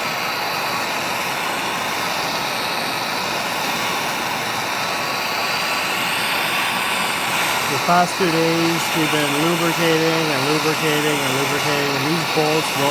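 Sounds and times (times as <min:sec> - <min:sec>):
torch flame hissing: 0:00.0 - 0:12.9.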